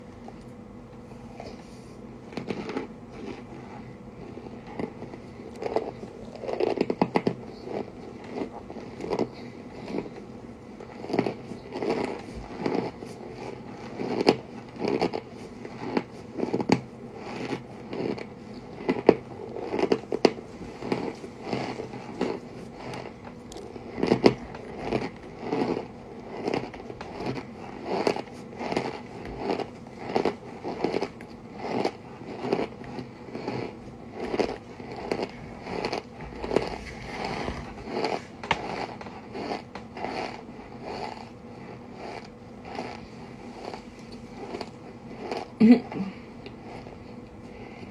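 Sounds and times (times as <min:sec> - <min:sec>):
chewing dry crunches: 0:01.2 - 0:47.9.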